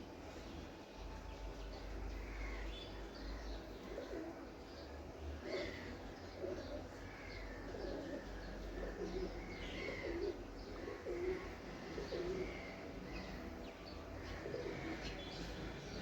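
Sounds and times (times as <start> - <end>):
small birds chirping: 0.3 - 16.0
pigeons cooing: 2.2 - 16.0.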